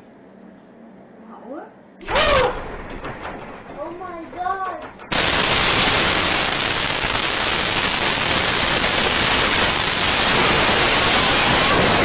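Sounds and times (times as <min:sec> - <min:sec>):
explosion roar: 0:02.0 - 0:12.0.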